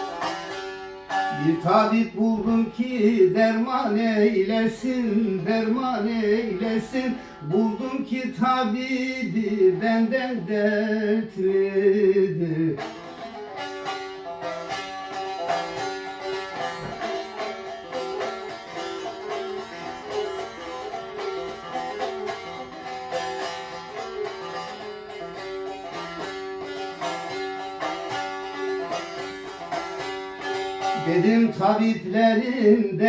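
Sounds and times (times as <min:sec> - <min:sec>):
plucked string instrument: 0:00.0 - 0:33.0.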